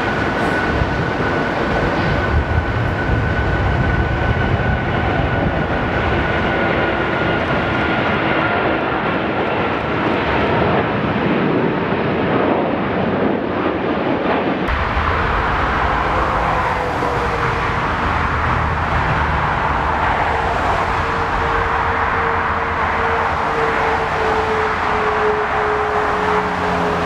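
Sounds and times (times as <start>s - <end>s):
jet engines at takeoff power: 0.0s - 27.0s
turbofan rumble and whine: 0.0s - 27.0s.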